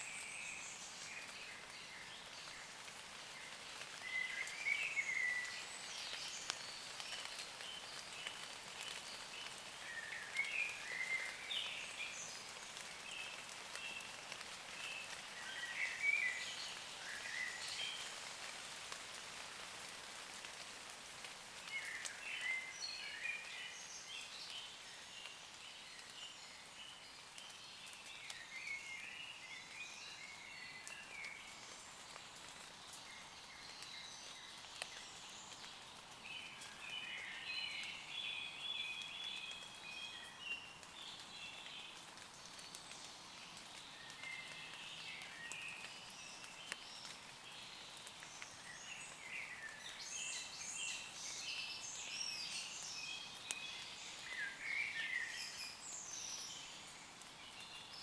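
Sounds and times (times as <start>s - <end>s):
light rain pattering on leaves: 0.0s - 58.0s.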